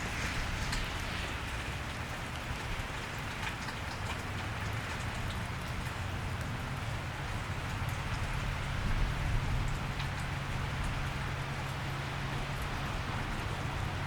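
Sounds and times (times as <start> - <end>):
rain falling on wet street: 0.0 - 14.0.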